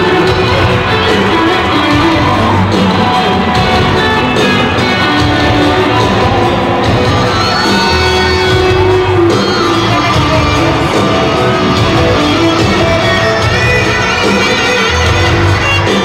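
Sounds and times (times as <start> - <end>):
crowd shouting: 0.0 - 16.0
live pop-rock band music: 0.0 - 16.0.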